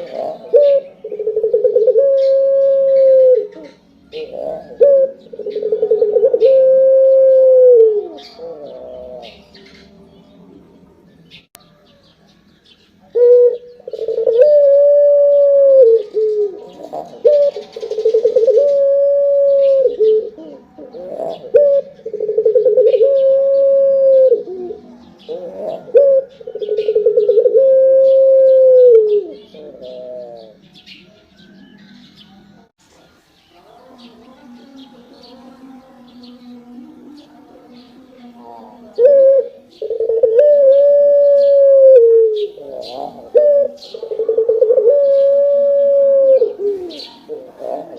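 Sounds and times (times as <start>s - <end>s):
dove cooing: 0.0s - 10.3s, 13.0s - 32.3s, 36.2s - 47.9s.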